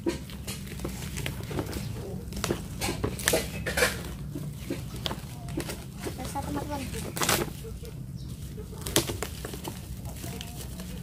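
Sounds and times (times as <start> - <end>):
plastic wrapping crinkling: 0.2 - 11.0.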